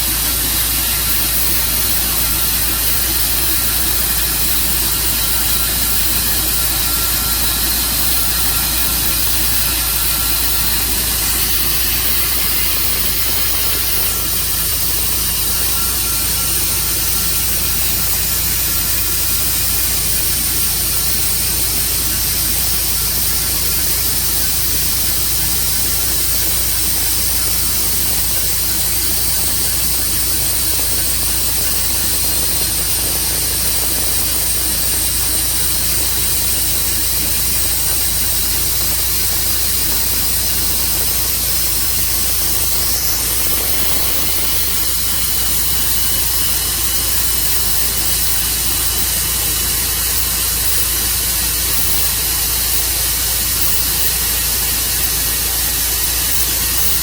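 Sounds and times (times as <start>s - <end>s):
sawmill running: 0.0s - 57.0s.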